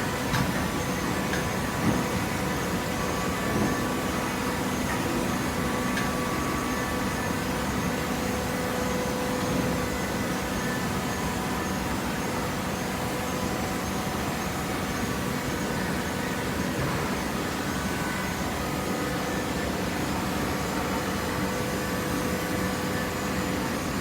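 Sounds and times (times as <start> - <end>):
conveyor machinery humming: 0.0 - 24.0.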